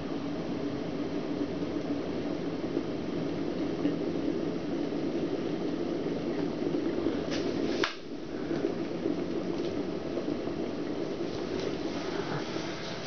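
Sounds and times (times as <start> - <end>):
electric kettle boiling water: 0.0 - 13.0.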